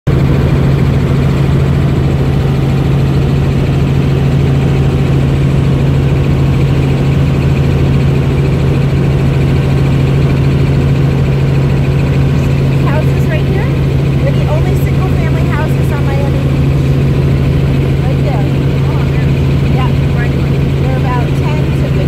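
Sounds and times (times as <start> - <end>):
helicopter cabin drone: 0.0 - 22.0.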